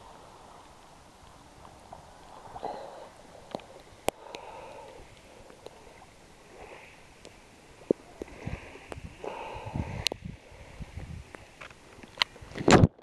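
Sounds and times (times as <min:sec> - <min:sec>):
water lapping and sloshing: 0:00.0 - 0:12.8.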